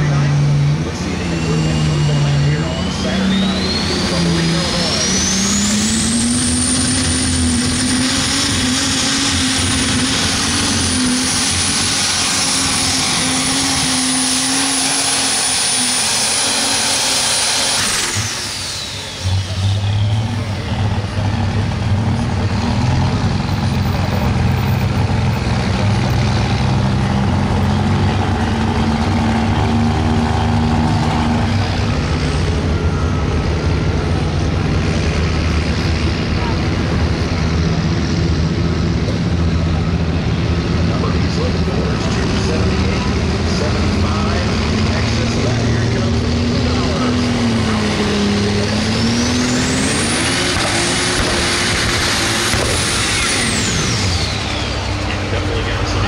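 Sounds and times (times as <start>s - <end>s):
diesel engine running hard: 0.0s - 56.0s
turbocharger whine: 0.0s - 56.0s.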